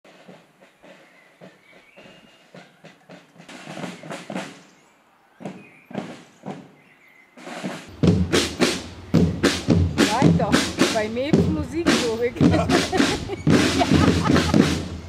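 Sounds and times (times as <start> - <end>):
snare and tenor drums marching: 0.1 - 4.7, 5.4 - 6.8, 7.4 - 15.0.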